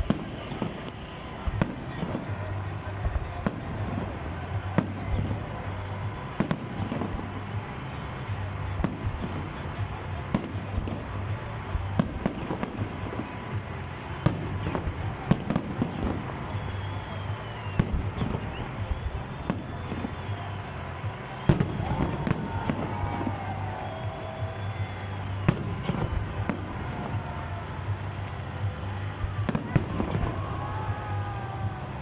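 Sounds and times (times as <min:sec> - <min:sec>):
fireworks bangs: 0:00.0 - 0:32.0
fireworks whistling: 0:00.0 - 0:32.0.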